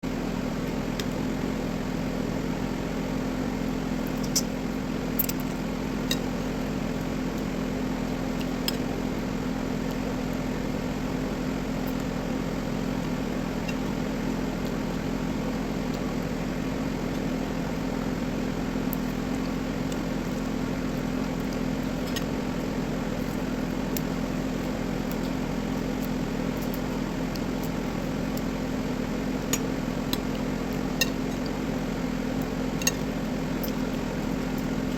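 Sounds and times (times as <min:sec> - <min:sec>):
steady machine hum: 0:00.0 - 0:34.9.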